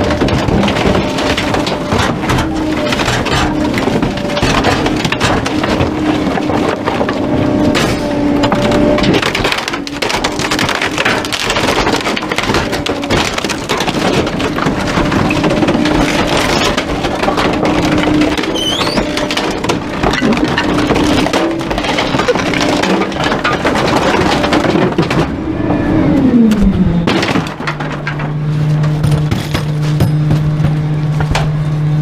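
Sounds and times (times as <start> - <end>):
crackling and cracking noise: 0.0 - 25.4, 26.2 - 31.5
truck engine hum: 0.0 - 32.0.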